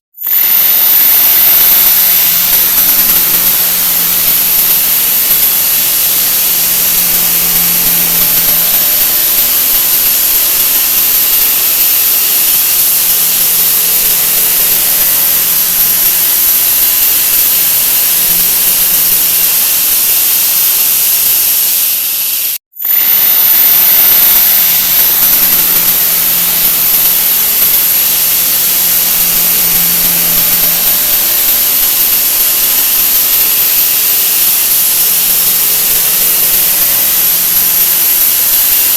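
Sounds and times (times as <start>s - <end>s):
loud hiss with high whine: 0.2s - 38.9s.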